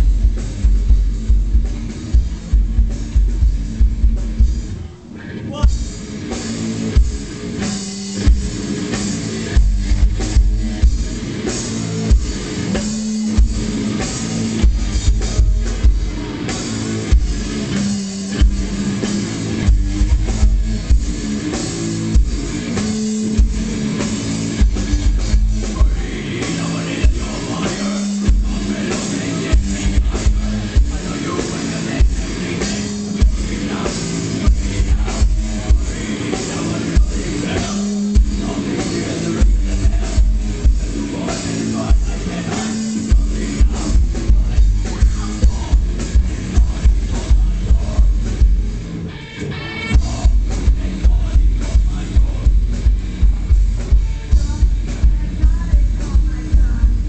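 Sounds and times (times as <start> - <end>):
heavy low guitar chugging: 0.0 - 57.0
metal band playing live: 0.0 - 57.0.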